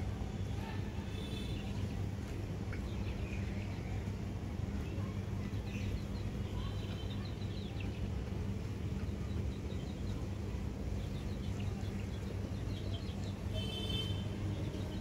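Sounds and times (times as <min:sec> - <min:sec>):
small birds chirping: 0:01.1 - 0:15.0.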